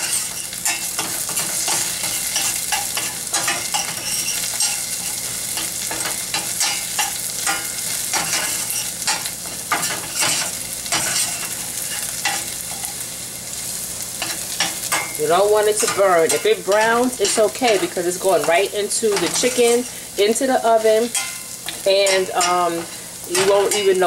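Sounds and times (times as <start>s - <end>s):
spoon scraping pan: 0.0s - 13.0s, 14.2s - 24.0s
onion sizzling in butter: 0.0s - 24.0s.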